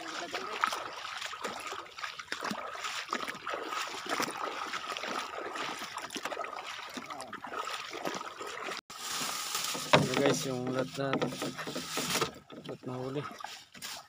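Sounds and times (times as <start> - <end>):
shallow seawater splashing: 0.0 - 12.1.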